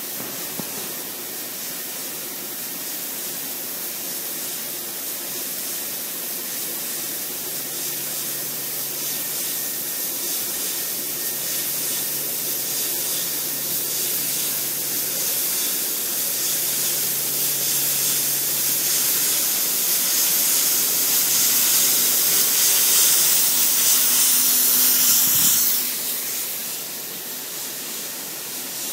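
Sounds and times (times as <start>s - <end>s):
laser cutter hissing: 0.0s - 28.9s.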